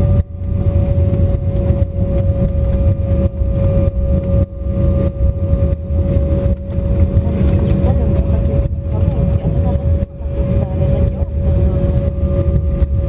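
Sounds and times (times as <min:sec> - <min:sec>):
jet engine whine: 0:00.0 - 0:13.0
low rumble of wheels and engines: 0:00.0 - 0:13.0.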